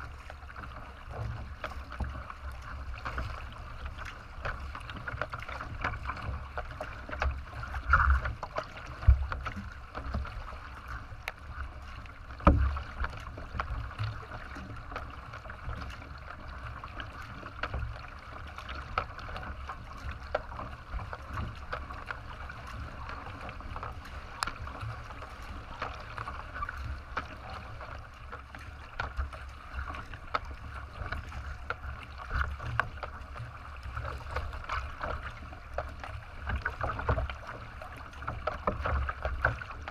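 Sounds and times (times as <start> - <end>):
water splashing at kayak bow: 0.0 - 39.9.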